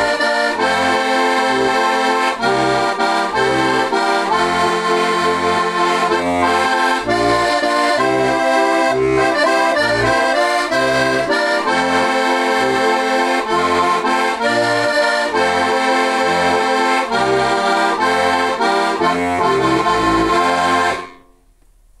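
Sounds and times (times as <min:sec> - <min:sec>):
button accordion folk tune: 0:00.0 - 0:21.3.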